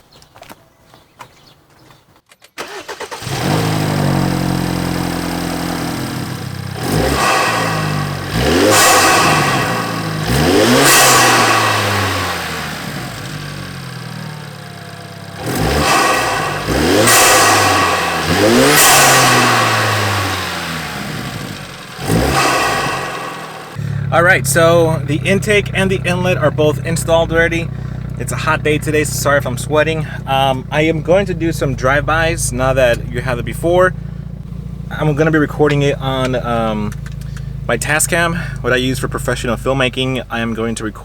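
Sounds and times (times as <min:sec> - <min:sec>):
car engine revving: 0:02.6 - 0:41.0
car engine starting and idling: 0:02.6 - 0:41.0.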